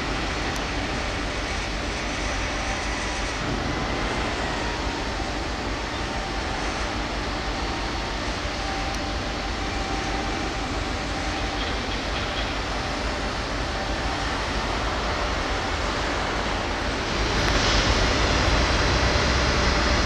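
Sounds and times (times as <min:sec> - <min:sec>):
faint steady tones: 0:00.0 - 0:20.0
machinery rushing hum: 0:00.0 - 0:20.0.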